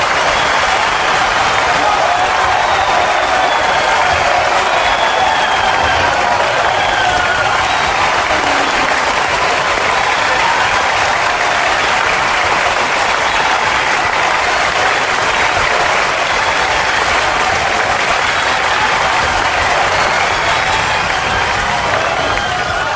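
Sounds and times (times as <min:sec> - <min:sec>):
large crowd applauding: 0:00.0 - 0:22.9.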